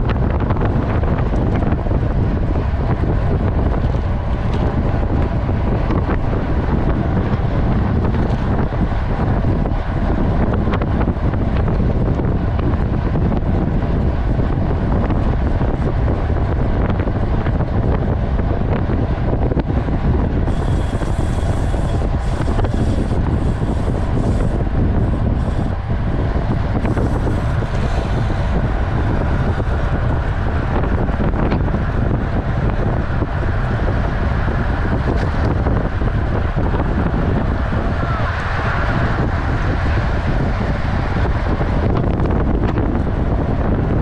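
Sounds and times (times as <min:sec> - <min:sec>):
wind rumbling on microphone: 0:00.0 - 0:44.0.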